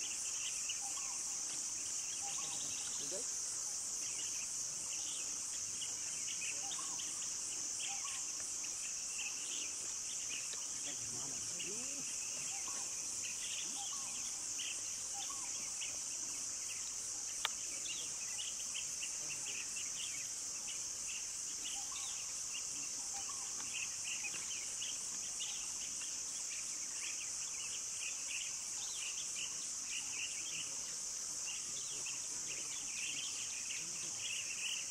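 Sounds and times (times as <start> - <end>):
insect chirps: 0.0 - 34.9
insects droning: 0.0 - 34.9.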